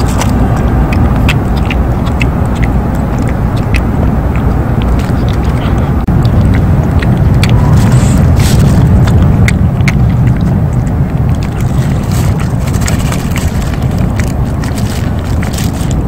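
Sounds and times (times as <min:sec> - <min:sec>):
cat chewing clicks: 0:00.0 - 0:16.0.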